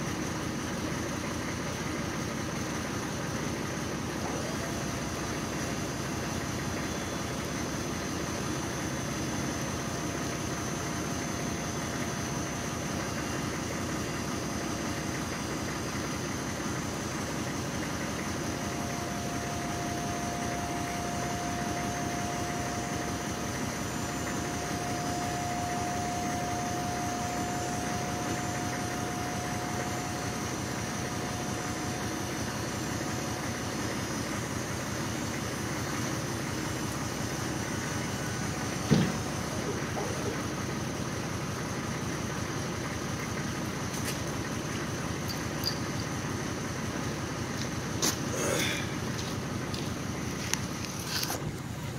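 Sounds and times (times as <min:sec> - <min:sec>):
hydraulic hoist whine: 0:00.0 - 0:51.9
truck engine idling: 0:00.0 - 0:51.9.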